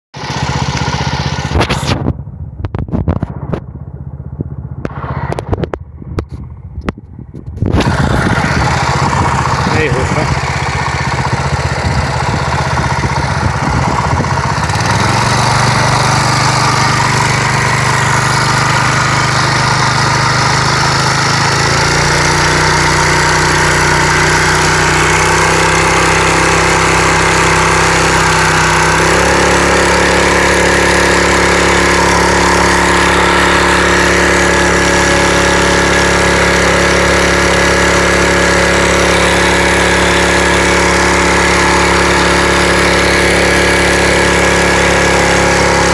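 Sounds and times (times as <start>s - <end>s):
outboard motor running: 0.1s - 45.9s.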